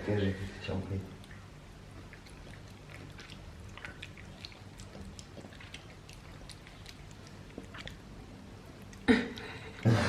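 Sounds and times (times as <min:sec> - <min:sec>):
low steady hum: 0:00.0 - 0:10.0
faint chewing of food: 0:00.1 - 0:09.9.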